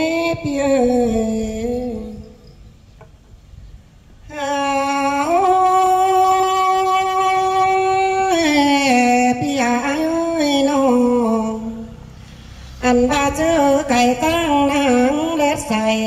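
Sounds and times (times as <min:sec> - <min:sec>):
woman singing folk song: 0:00.0 - 0:02.4, 0:04.3 - 0:11.9, 0:12.8 - 0:16.0.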